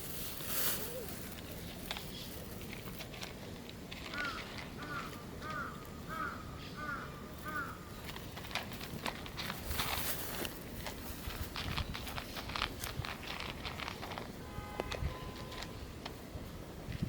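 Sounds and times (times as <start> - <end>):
rustling and clicking: 0.0 - 5.6, 8.0 - 16.2.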